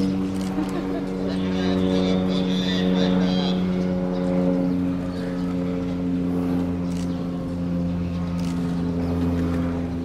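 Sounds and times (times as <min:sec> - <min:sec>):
machine hum with low drone: 0:00.0 - 0:10.0.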